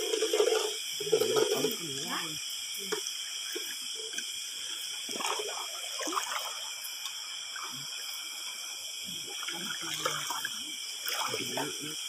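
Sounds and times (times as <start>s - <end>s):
shallow water splashing: 0.0s - 2.2s, 3.5s - 12.0s
night insects chorus: 0.0s - 12.0s.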